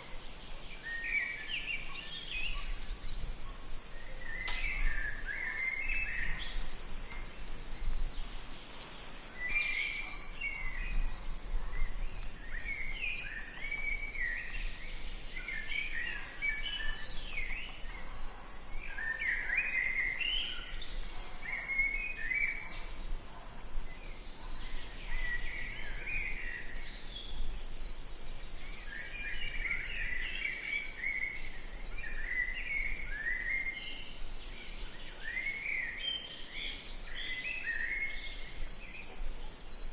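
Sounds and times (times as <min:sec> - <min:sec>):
birds calling and chirping: 0:00.0 - 0:39.9.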